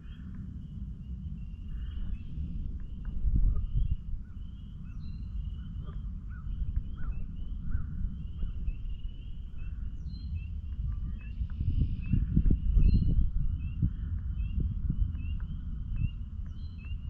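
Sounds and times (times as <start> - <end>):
low rumble: 0.0 - 17.0
spring peepers chorus: 0.0 - 17.0.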